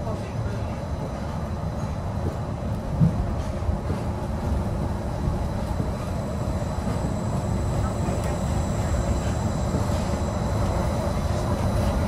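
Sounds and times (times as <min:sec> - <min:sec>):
monorail cabin rumble: 0:00.0 - 0:12.0.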